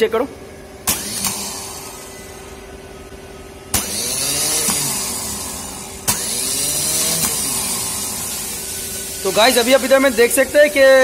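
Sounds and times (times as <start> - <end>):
starter motor spinning: 0.8 - 2.8, 3.7 - 11.0.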